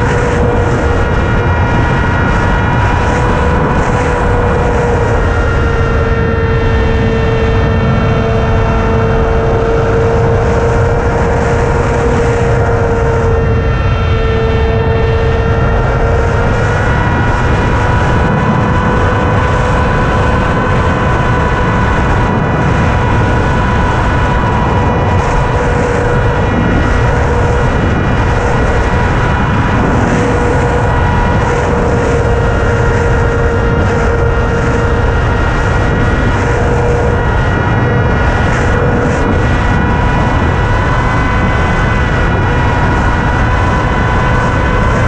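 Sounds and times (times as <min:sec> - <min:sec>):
drone motors whining: 0:00.0 - 0:45.0
wind rush on microphone: 0:00.0 - 0:45.0.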